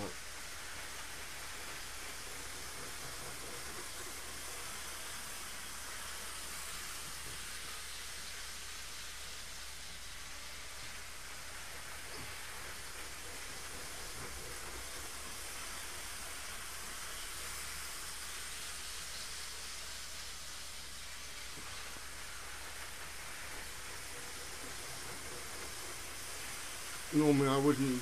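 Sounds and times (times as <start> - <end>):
model train whirring: 0.0 - 28.0.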